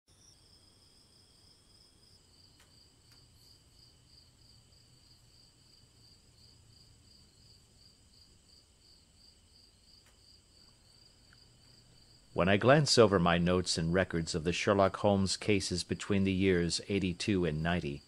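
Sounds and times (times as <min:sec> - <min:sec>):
faint crickets chirping: 0:00.1 - 0:18.0.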